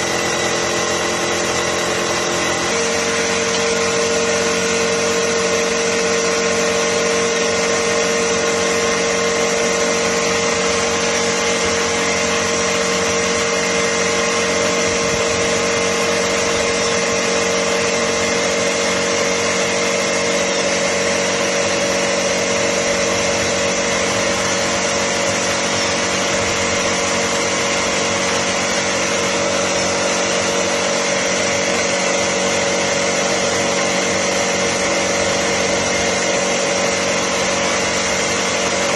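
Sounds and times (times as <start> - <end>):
machine drone: 0.0 - 38.9.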